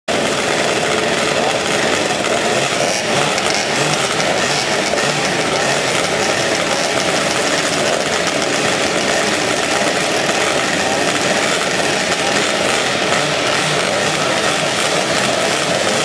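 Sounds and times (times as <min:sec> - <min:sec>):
motorcycle engines droning: 0:00.1 - 0:16.0.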